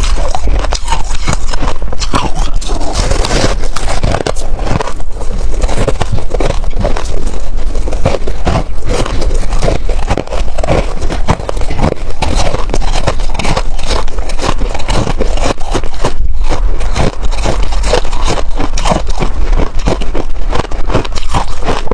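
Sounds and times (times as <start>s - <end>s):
freezer frost crunching: 0.0s - 21.9s.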